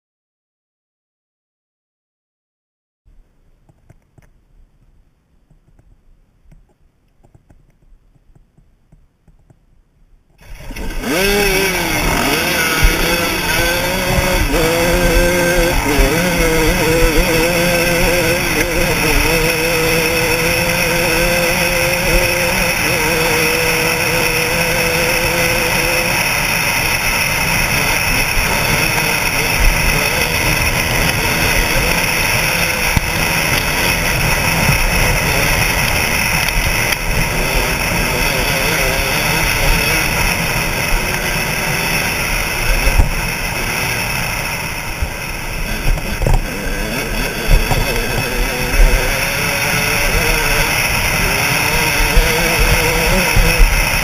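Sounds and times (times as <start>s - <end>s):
dirt bike engine running hard: 10.4s - 54.0s.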